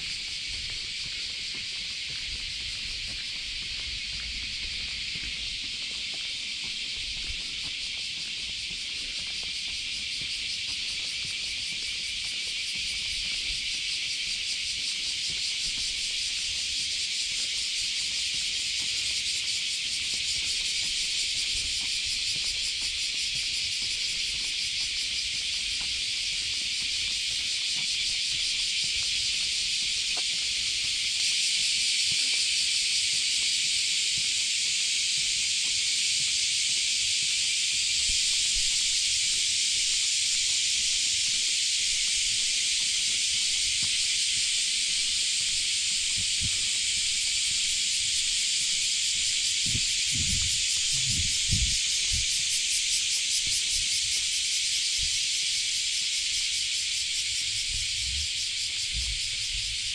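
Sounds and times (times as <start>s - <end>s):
cicadas chorus: 0.0s - 59.9s.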